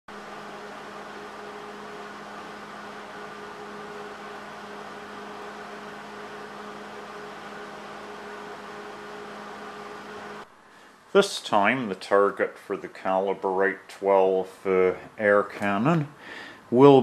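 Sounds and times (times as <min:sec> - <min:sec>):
machine hum: 0:00.1 - 0:17.0
steady hiss: 0:00.2 - 0:17.0.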